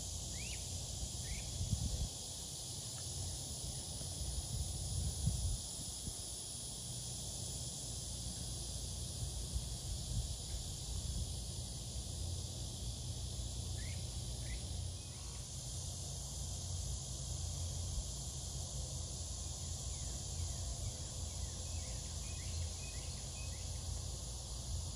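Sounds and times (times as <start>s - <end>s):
insects buzzing: 0.0s - 24.9s.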